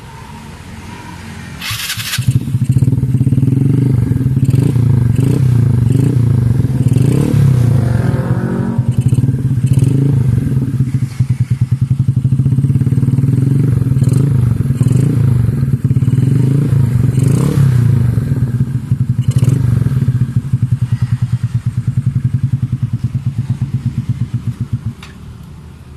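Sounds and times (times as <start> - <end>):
scooter engine idling and revving: 0.0 - 25.9.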